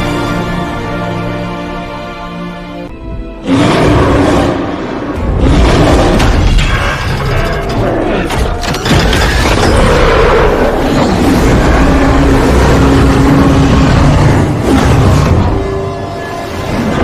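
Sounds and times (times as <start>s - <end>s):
film music: 0.0s - 17.0s.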